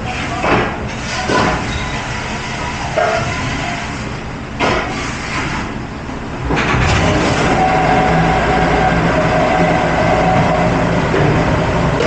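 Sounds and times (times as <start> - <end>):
dishwashing machine drone: 0.0 - 12.0.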